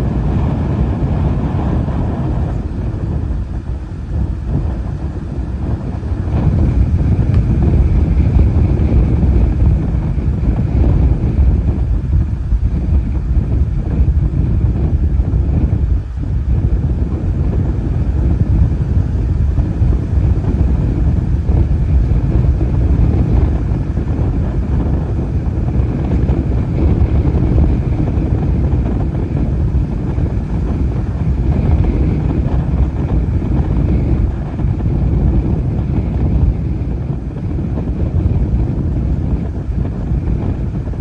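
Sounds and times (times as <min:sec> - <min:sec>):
strong gusty wind buffeting microphone: 0:00.0 - 0:41.0.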